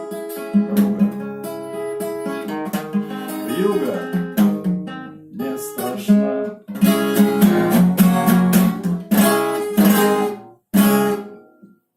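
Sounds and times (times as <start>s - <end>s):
acoustic guitar strumming chords: 0.0s - 11.9s.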